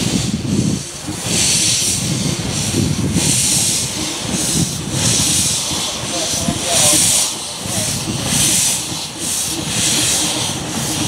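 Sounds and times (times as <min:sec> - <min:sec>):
steam hissing blasts: 0:00.0 - 0:11.0
steam train rumble: 0:00.0 - 0:11.0.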